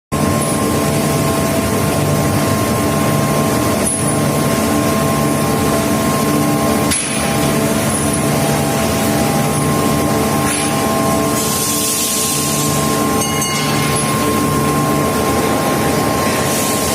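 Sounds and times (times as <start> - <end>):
high-pitched machinery hum: 0.2 - 16.9
machinery rumble and hiss: 0.2 - 16.9.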